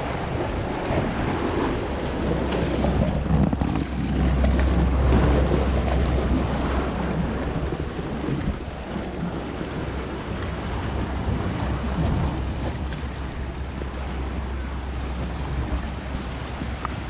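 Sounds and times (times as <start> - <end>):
sea surf on rocks: 0.0 - 17.0
wind buffeting microphone: 0.0 - 17.0.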